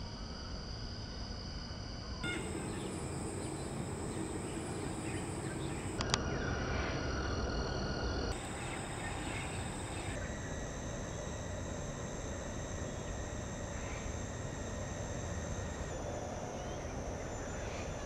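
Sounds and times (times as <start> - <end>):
insect drone: 0.0 - 18.0.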